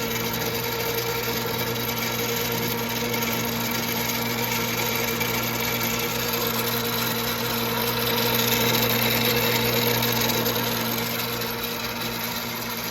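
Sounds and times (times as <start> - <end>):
grinding machine noise: 0.0 - 12.9
lathe motor hum: 0.0 - 12.9.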